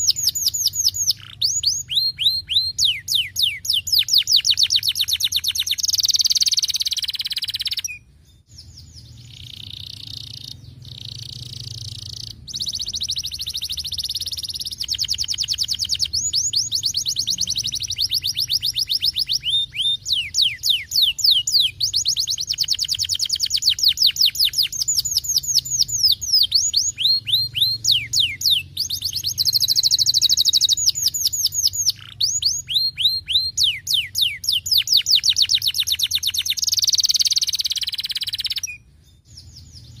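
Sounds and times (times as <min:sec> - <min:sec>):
canary singing in trills: 0:00.0 - 0:40.0.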